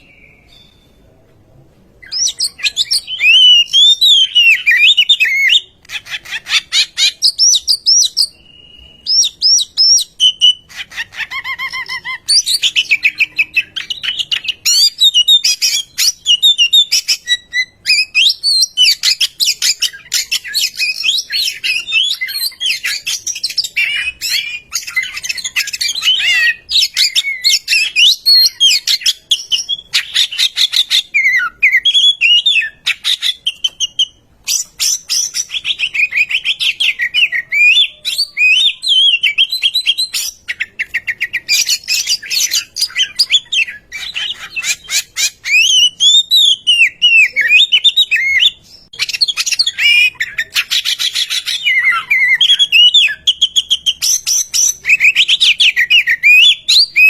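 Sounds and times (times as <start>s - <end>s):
bird singing whistled song: 0.0s - 1.0s, 2.0s - 57.0s.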